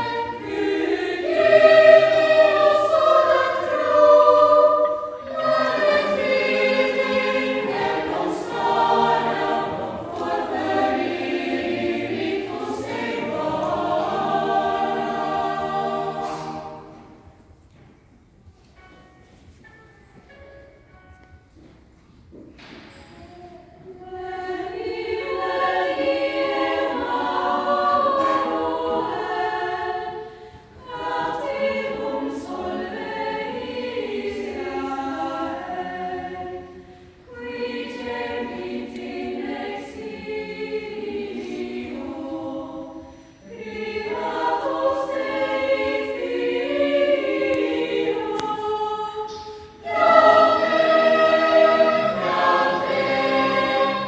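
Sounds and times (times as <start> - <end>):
choir singing: 0.0 - 17.6, 23.3 - 54.0.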